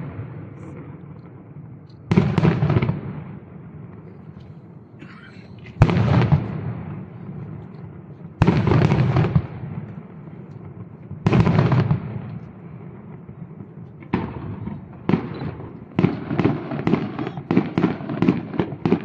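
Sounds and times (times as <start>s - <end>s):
firework bangs: 0.0s - 4.3s, 5.7s - 19.0s.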